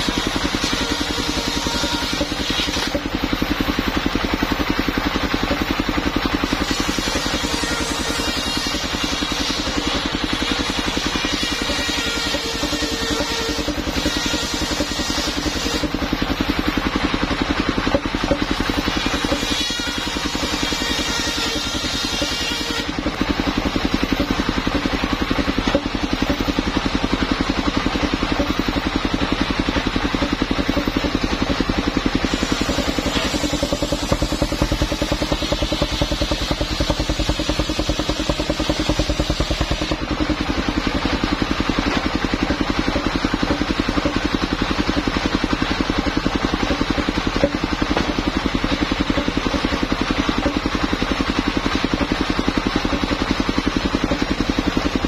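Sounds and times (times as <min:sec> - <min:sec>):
saw blade cutting timber: 0:00.0 - 0:55.0
sawmill engine running: 0:00.0 - 0:55.0.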